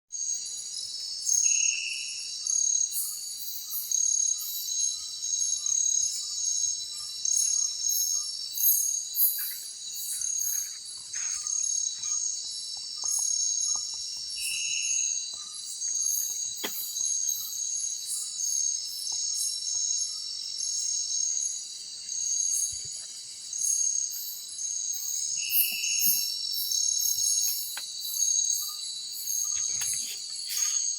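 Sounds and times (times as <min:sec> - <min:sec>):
crickets and insects trilling: 0:00.2 - 0:30.9
rapid pulsing insect calls: 0:00.2 - 0:30.9.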